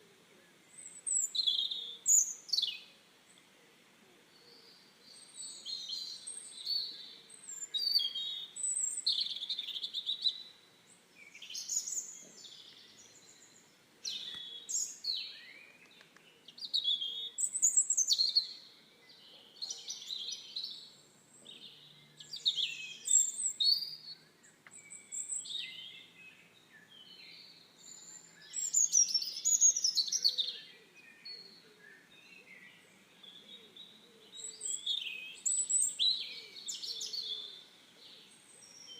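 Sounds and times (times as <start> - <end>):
birds chirping and warbling: 0.0 - 38.9.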